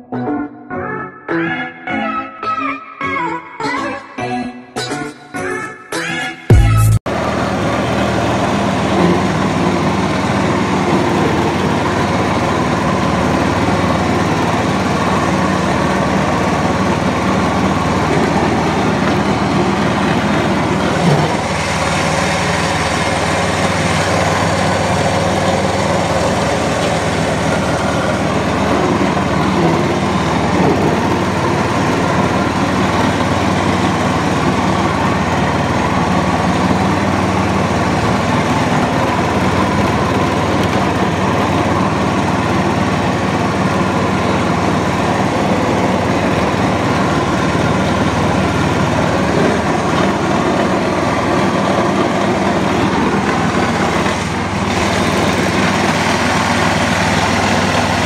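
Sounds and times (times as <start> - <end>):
small tractor engine running: 6.5 - 58.0.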